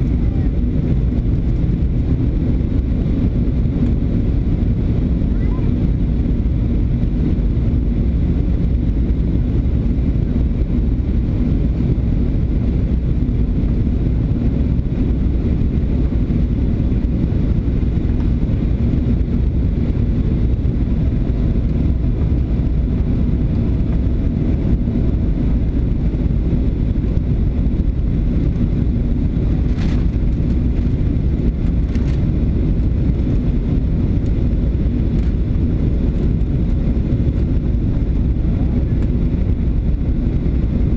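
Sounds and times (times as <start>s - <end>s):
jet engines rumbling: 0.0s - 40.9s
rushing airflow: 0.0s - 40.9s.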